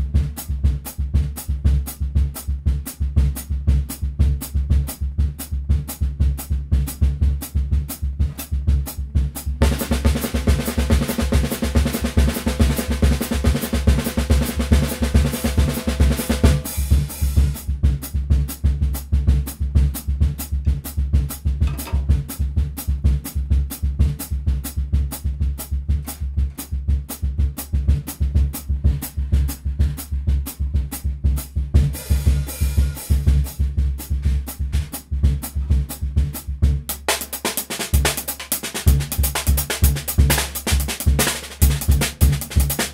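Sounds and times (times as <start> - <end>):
drum-kit groove: 0.0 - 42.9.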